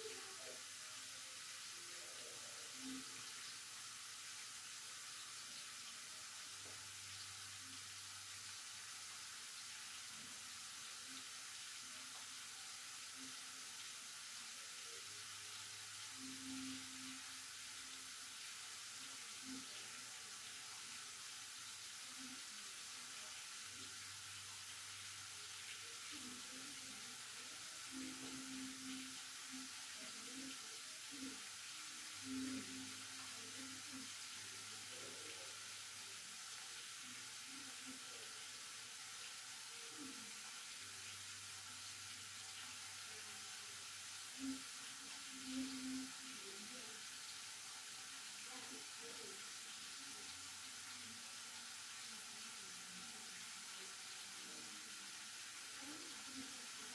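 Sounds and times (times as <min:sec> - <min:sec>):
pot simmering hiss: 0:00.0 - 0:56.9.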